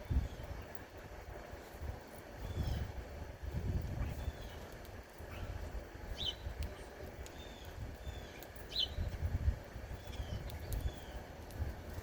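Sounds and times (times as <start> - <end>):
small birds chirping: 0.0 - 3.0, 3.8 - 12.0
low wind rumble: 0.0 - 12.0.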